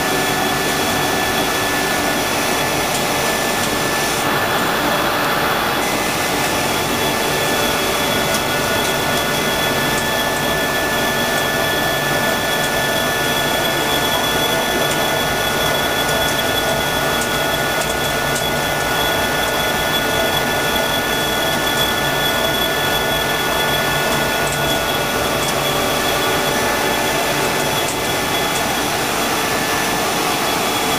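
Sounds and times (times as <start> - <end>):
lathe machine running: 0.0 - 30.9.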